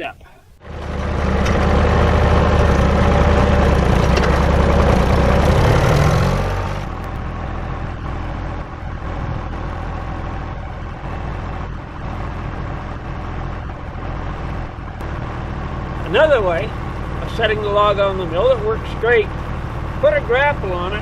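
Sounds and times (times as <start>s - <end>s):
tractor engine running: 0.5s - 21.0s.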